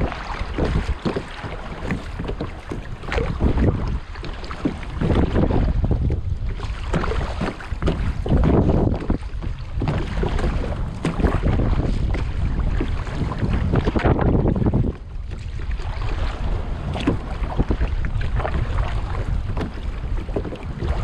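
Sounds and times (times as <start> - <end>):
water splashing and lapping: 0.0 - 21.0
wind buffeting microphone: 0.0 - 21.0.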